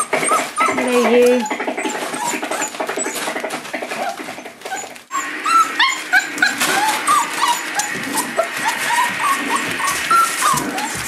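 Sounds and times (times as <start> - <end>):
newspaper crinkling: 0.0 - 11.0
puppies whining and yipping: 0.0 - 11.0.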